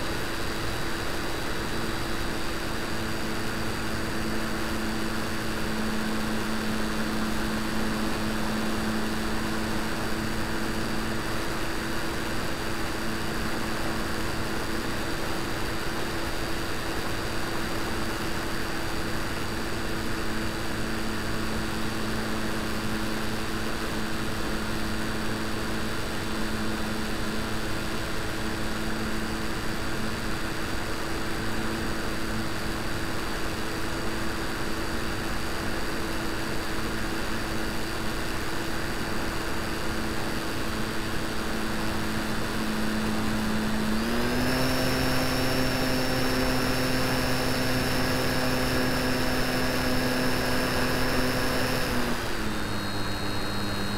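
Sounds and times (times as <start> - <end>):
model plane motor drone with whine: 0.0 - 53.9.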